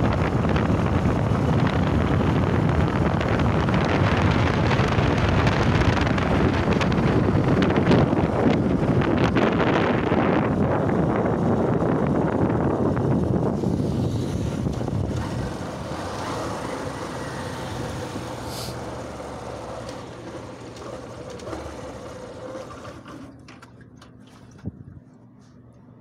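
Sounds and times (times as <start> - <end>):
wind rushing over microphone: 0.0 - 22.9
motorcycle engine: 0.0 - 24.6
road noise: 0.0 - 26.0.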